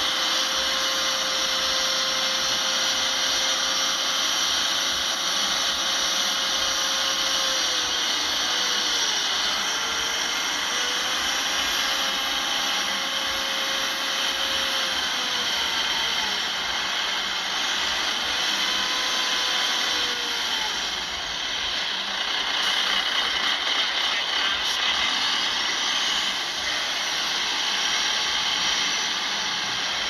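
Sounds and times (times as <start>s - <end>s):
heavy machinery engine running: 0.0s - 30.0s.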